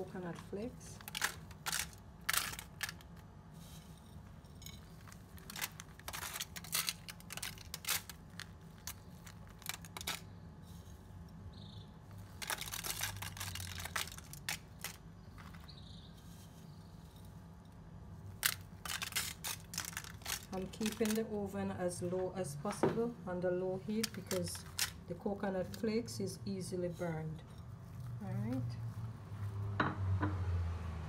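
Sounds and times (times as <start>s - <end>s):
foil rustling and crinkling: 0.0s - 11.2s, 12.0s - 17.1s, 18.1s - 21.9s, 23.8s - 29.0s.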